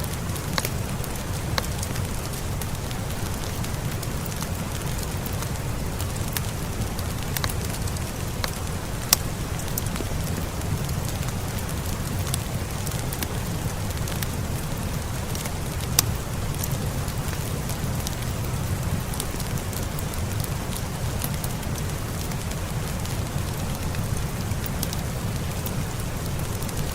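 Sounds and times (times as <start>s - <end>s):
steady rain: 0.0s - 26.9s
wood fire crackling and popping: 0.0s - 26.9s.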